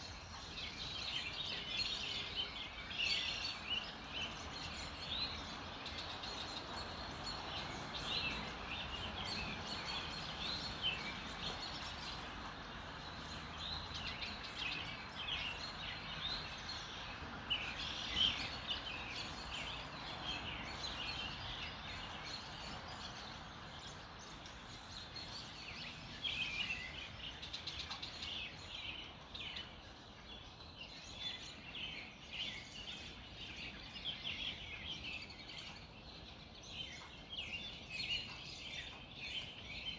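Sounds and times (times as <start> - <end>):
outdoor background hiss: 0.0 - 39.9
songbirds chirping and trilling: 0.0 - 39.9.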